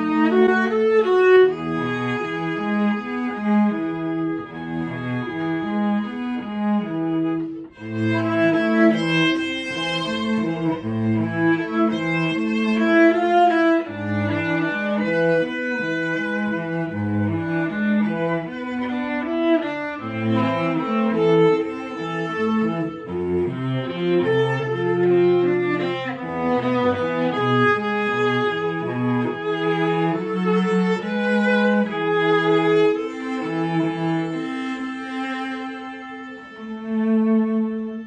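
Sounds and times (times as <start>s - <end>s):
cello low line: 0.0s - 38.0s
viola melody: 0.0s - 38.0s.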